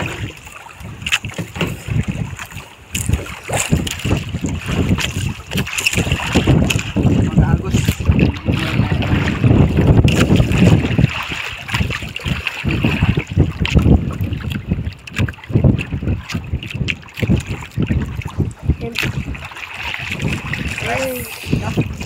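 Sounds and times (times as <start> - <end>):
water slapping hull: 0.0 - 22.0
wind buffeting microphone: 0.0 - 22.0.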